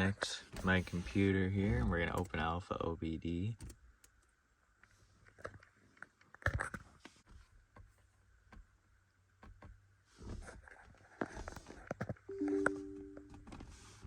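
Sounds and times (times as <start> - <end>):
quiet steady hum: 0.0 - 14.0.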